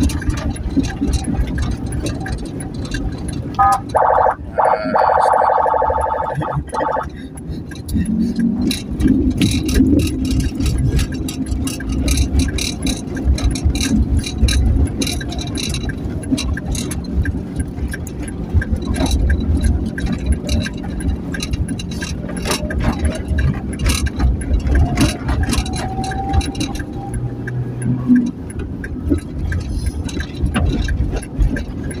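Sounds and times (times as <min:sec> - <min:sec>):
light rattles and clicks: 0:00.0 - 0:04.0, 0:05.7 - 0:32.0
engine and road rumble: 0:00.0 - 0:32.0.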